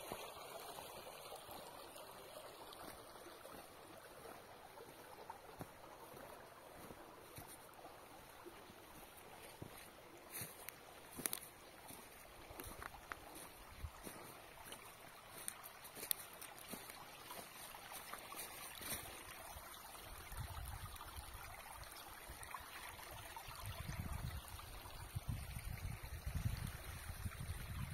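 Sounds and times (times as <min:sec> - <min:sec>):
rainwater trickling over ground: 0:00.0 - 0:27.9.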